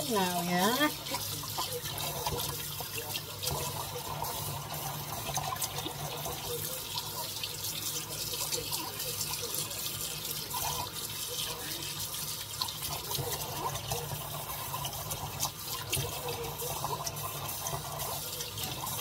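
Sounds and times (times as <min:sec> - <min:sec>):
faucet running into metal sink: 0:00.0 - 0:19.0.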